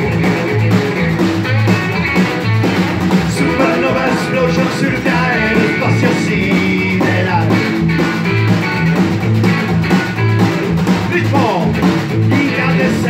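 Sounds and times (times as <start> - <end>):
double bass notes: 0.0 - 13.0
rock and roll band playing: 0.0 - 13.0
voices singing: 0.0 - 13.0.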